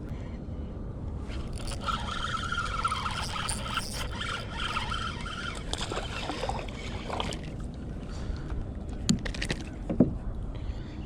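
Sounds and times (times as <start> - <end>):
water: 1.2 - 10.5.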